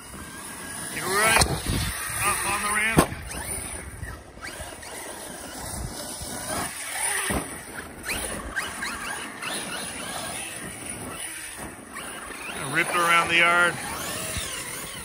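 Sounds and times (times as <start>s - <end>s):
electric motor whining: 0.0s - 15.0s
tyres on dirt: 0.0s - 15.0s.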